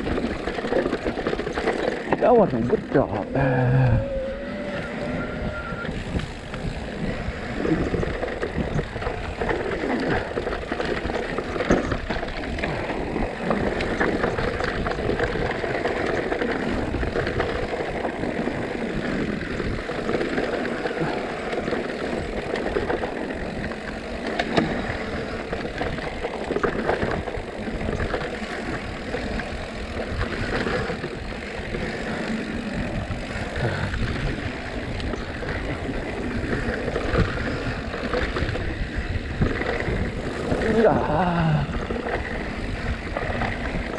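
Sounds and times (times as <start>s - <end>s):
bike rattling: 0.0s - 43.9s
tyres on loose dirt: 0.0s - 43.9s
wind rumbling over microphone: 0.0s - 43.9s.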